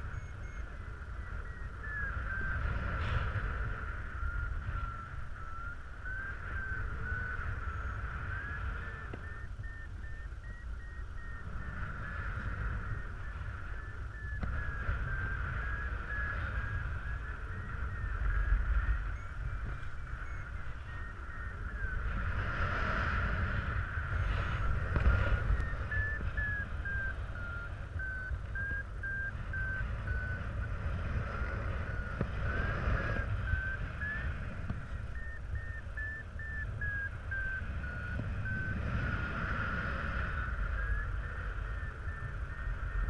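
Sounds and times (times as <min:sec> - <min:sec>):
variometer beeping: 0:00.0 - 0:43.0.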